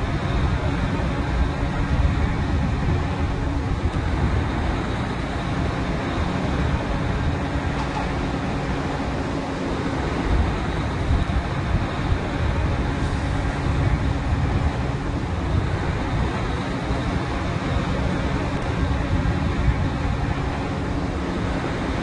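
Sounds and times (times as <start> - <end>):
drilling rig machinery rumbling: 0.0 - 22.0.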